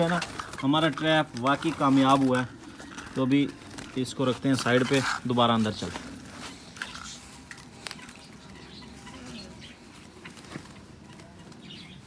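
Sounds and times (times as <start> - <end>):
birds fluttering: 0.0 - 12.0.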